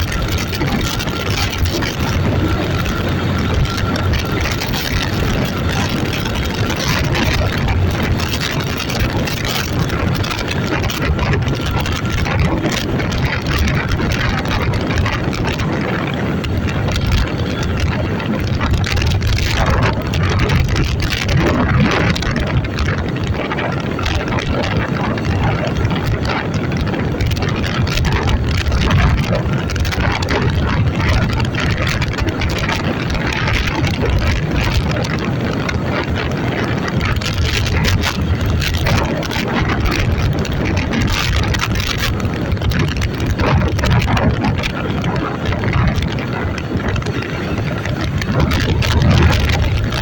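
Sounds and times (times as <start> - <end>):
constant rushing noise: 0.0 - 50.0
vehicle engine running: 0.0 - 50.0.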